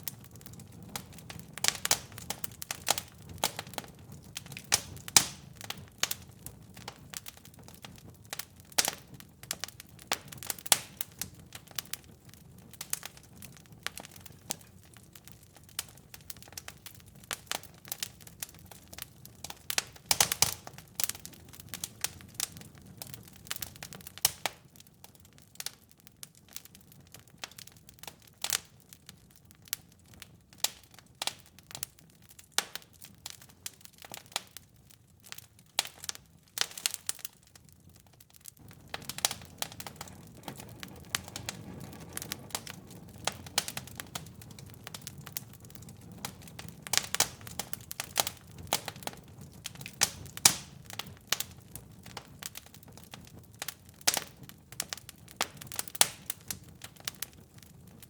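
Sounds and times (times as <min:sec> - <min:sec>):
low rumble of burning: 0:00.0 - 0:58.0
wood fire crackling: 0:00.0 - 0:58.0.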